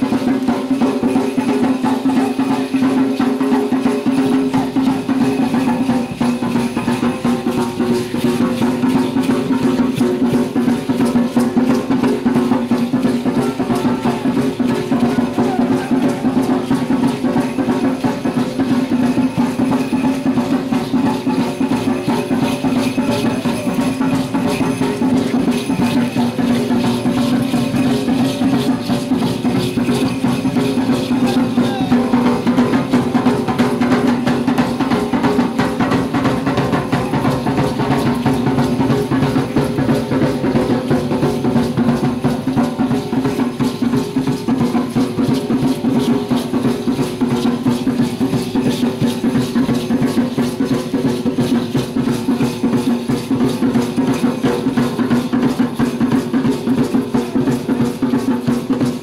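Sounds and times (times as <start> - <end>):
rattling percussion: 0.0 - 59.0
steady drumbeat: 0.0 - 59.0.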